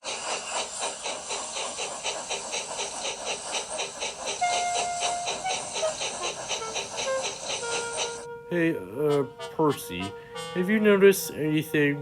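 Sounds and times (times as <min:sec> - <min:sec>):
steam locomotive chuffing: 0:00.0 - 0:12.0.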